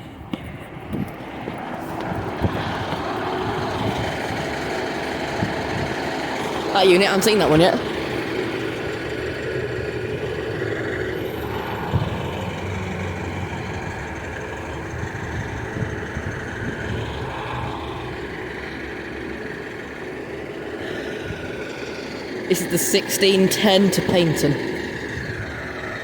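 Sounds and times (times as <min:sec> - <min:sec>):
diesel train engine rumble: 0:00.0 - 0:26.0.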